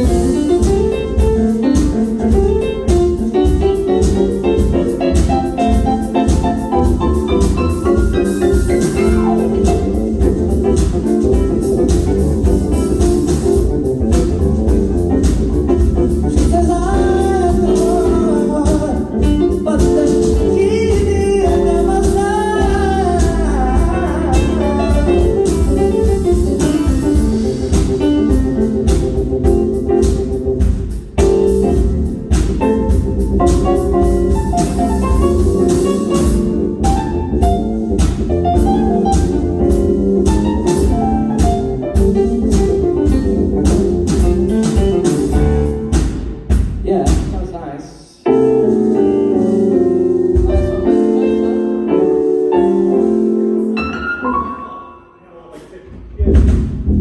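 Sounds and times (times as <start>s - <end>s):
bending melody line: 0.0s - 46.1s, 48.3s - 55.3s
band playing bluesy jazz groove: 0.0s - 47.5s, 48.2s - 54.8s, 56.1s - 57.0s
drum hits: 0.0s - 47.5s, 50.2s - 51.2s, 55.6s - 57.0s.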